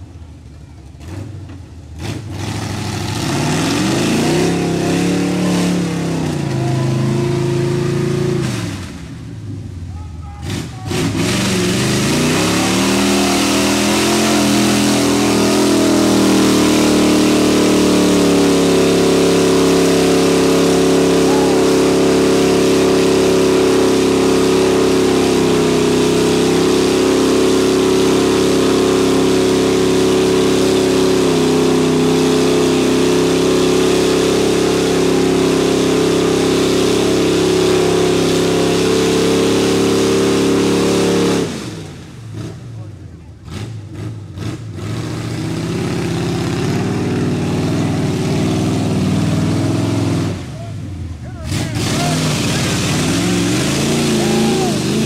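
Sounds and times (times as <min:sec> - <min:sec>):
tires spinning in mud: 0:00.0 - 0:55.0
truck engine revving: 0:00.0 - 0:55.0.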